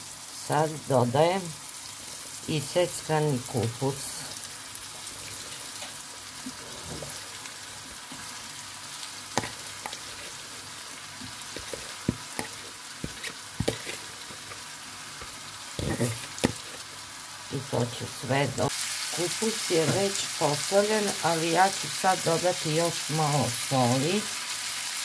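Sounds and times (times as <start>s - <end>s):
vegetables sizzling in pan: 0.0s - 25.0s.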